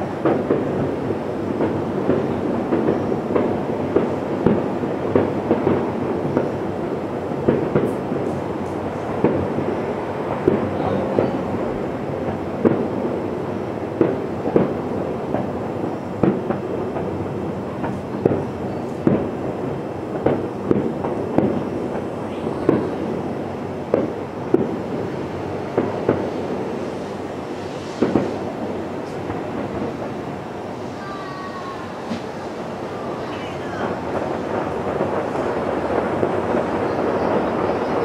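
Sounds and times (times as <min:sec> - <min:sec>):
distant fireworks booms: 0:00.0 - 0:38.0.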